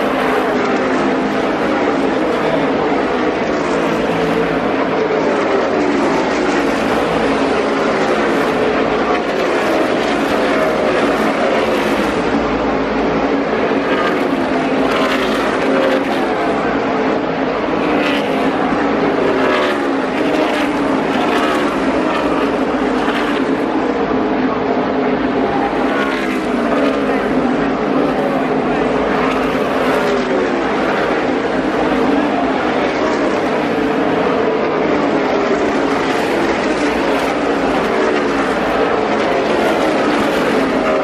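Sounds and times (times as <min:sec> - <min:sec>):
race car engines passing: 0:00.0 - 0:41.0.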